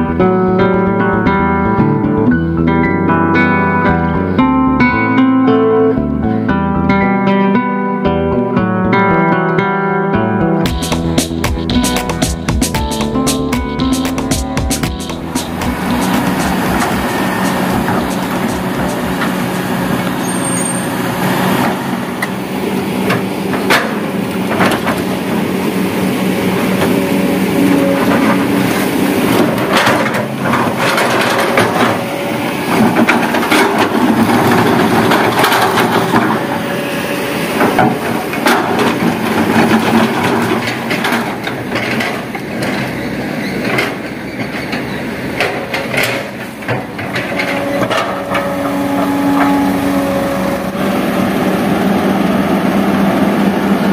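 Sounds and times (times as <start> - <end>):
excavator diesel engine: 0.0 - 7.1, 10.3 - 53.9.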